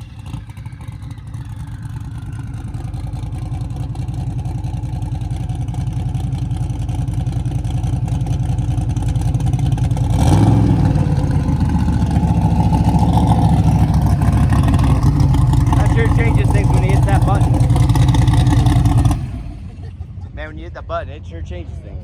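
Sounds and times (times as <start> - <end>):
race car engine: 0.0 - 22.0.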